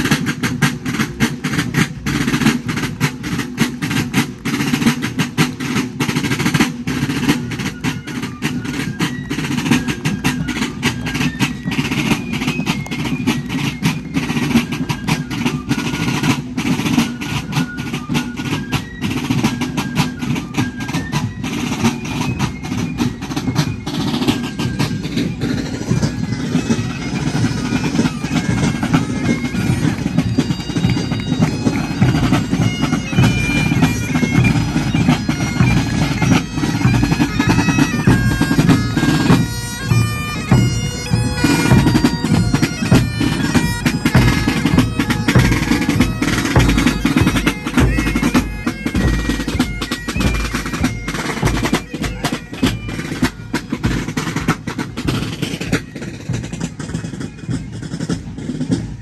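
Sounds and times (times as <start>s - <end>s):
bagpipes playing over drone: 0.0s - 58.9s
snare and bass drums: 0.0s - 59.0s.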